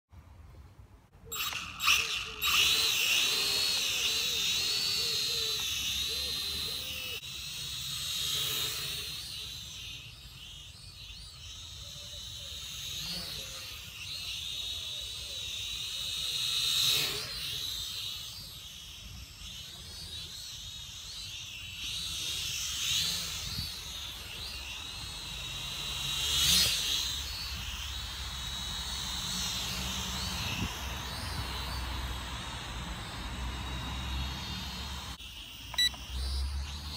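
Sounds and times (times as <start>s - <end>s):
toy quadcopter propellers whining: 1.3s - 36.9s.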